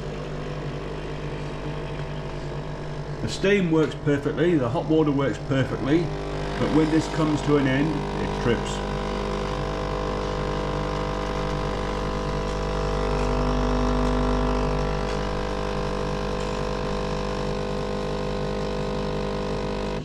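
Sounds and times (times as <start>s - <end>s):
espresso machine pump humming: 0.0s - 20.0s.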